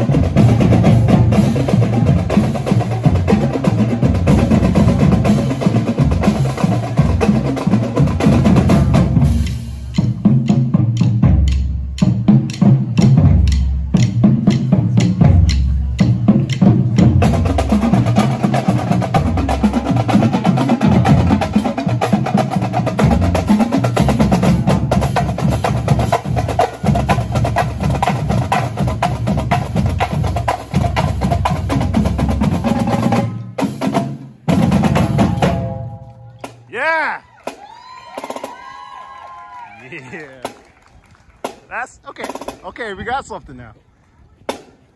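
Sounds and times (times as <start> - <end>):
snare drums: 0.0 - 38.9, 41.4 - 43.3, 44.5 - 44.9.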